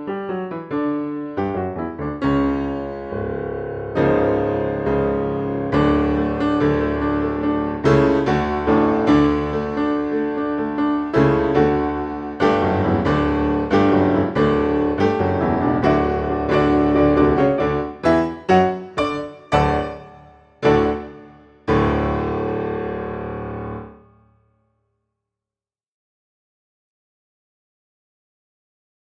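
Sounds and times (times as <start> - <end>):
piano chords: 0.0 - 24.4.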